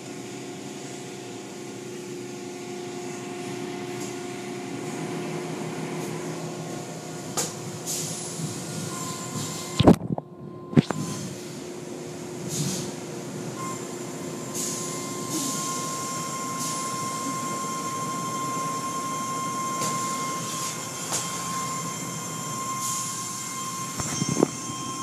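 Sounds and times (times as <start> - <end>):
car wash motor whine: 0.0 - 25.0.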